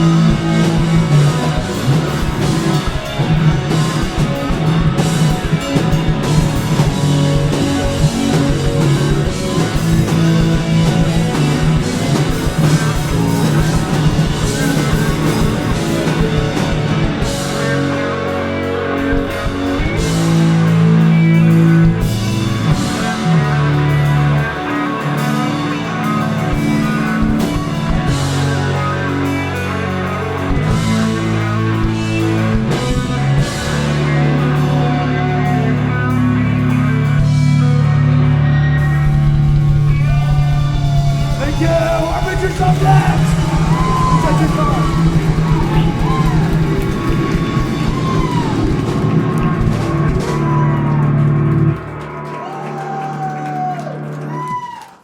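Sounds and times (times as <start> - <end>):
loud rock band playing: 0.0 - 54.9
drum kit: 0.0 - 55.0.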